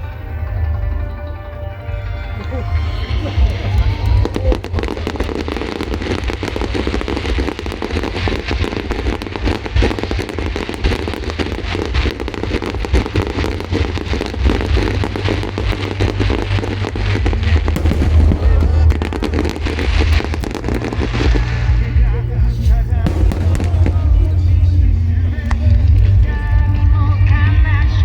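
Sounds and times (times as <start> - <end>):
low rumble of bursts: 0.0 - 28.0
fireworks crackling: 2.3 - 28.0.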